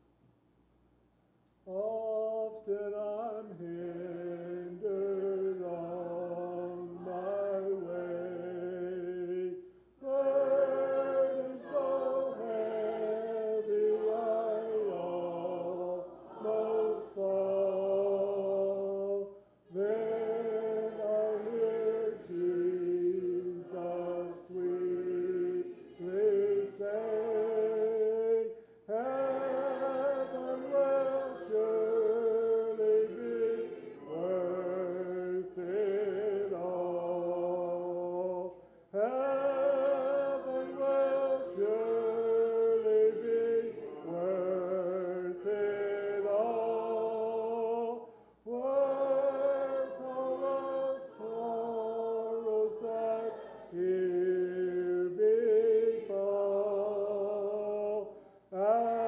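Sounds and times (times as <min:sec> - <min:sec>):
congregation singing a hymn: 0:01.7 - 0:59.0.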